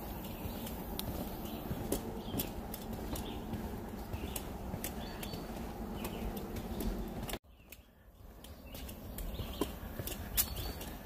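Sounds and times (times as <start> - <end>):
footsteps on wooden boardwalk: 0.0 - 11.0.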